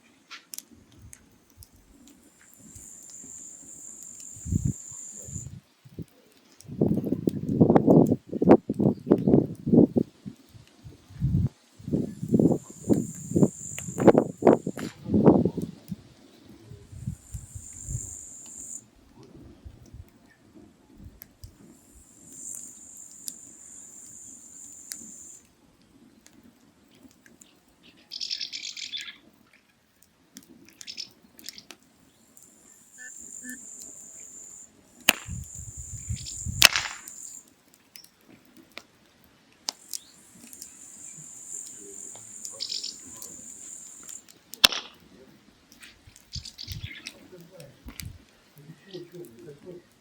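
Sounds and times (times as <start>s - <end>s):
steady high hiss: 0.0s - 29.3s, 30.5s - 50.0s
firewood crackling and popping: 0.0s - 50.0s.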